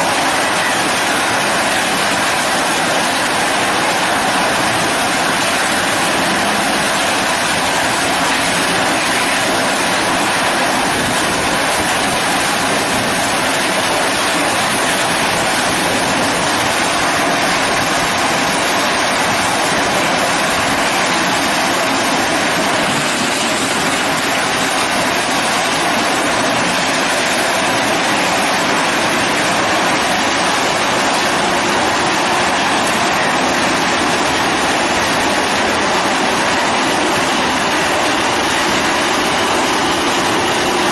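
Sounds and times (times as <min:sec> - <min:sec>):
conveyors running: 0:00.0 - 0:40.9
hammer mill crushing steel: 0:00.0 - 0:40.9.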